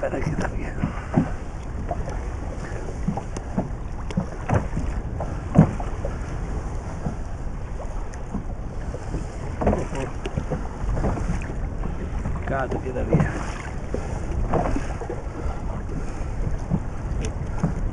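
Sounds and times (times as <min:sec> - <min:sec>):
water lapping against boat: 0:00.0 - 0:17.9
wind buffeting microphone: 0:00.0 - 0:17.9.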